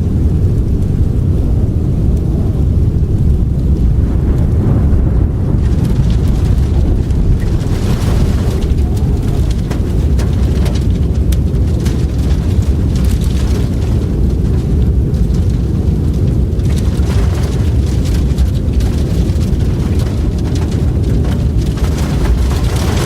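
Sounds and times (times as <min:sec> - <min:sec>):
rumbling blizzard wind: 0:00.0 - 0:23.0.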